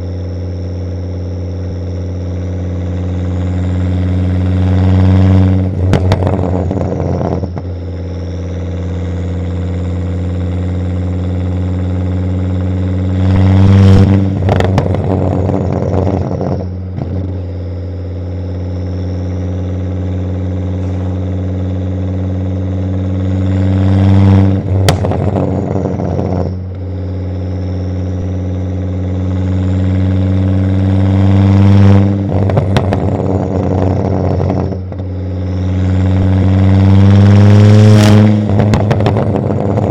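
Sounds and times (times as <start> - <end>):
car exhaust note: 0.0 - 39.9
exhaust pops and crackles: 1.1 - 17.6, 18.3 - 39.9.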